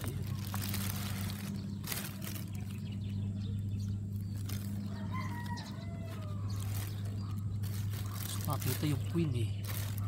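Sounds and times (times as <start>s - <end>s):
plastic bag crinkling: 0.0s - 2.9s, 4.1s - 10.0s
steady low hum: 0.0s - 10.0s.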